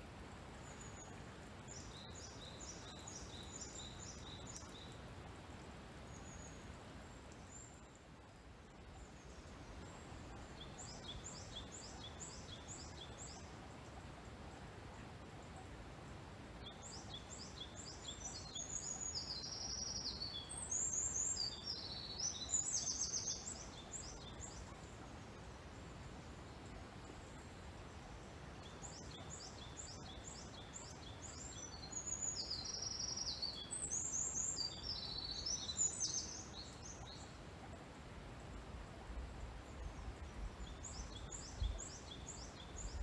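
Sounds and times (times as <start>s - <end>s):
songbird singing: 0.4s - 43.0s.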